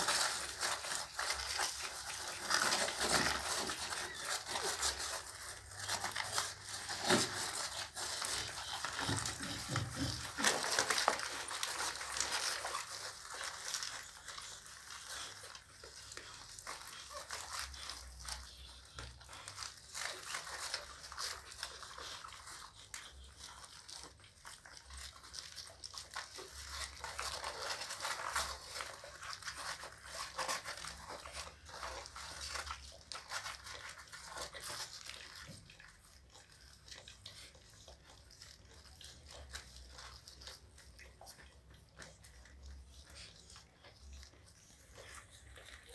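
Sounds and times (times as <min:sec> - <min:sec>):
puppies suckling: 0:00.0 - 0:45.9.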